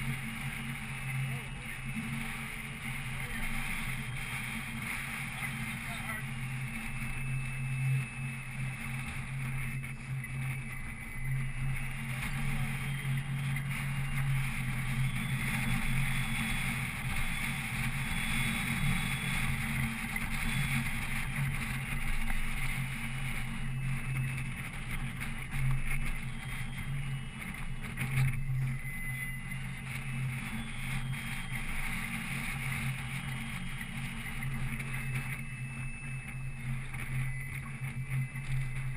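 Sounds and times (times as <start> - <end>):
boat motor humming: 0.0 - 38.9
water: 0.0 - 38.9
wind noise: 0.0 - 38.9.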